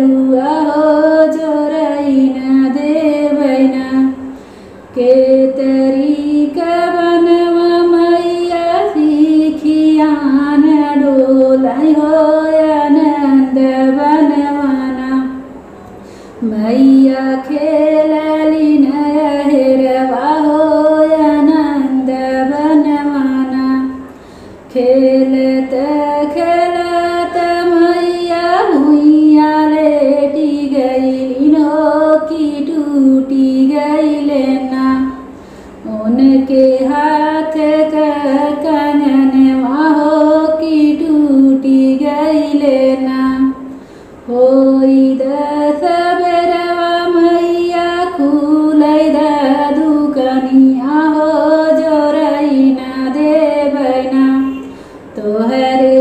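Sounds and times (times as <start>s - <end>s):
woman singing unaccompanied: 0.0s - 15.6s, 16.4s - 56.0s.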